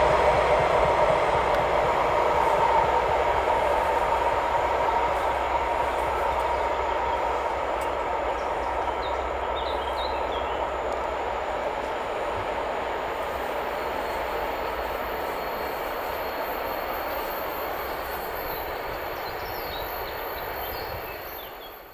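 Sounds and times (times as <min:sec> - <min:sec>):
freight train rolling on track: 0:00.0 - 0:21.9.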